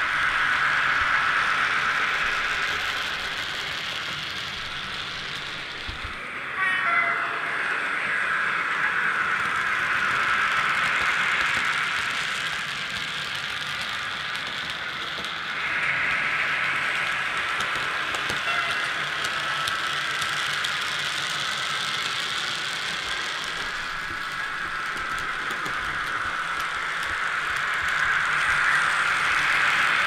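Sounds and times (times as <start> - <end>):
model train wheels rattling: 0.0 - 6.2, 8.9 - 30.0.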